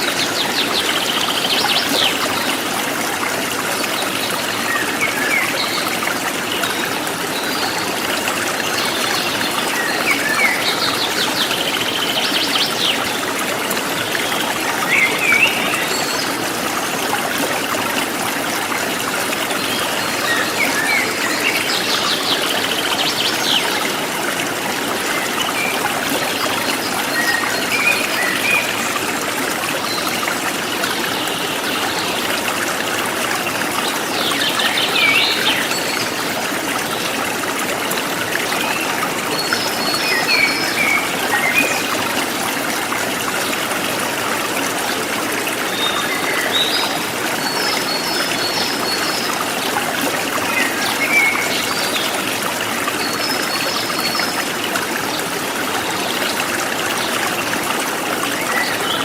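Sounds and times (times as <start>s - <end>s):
stream trickling and babbling: 0.0s - 59.0s.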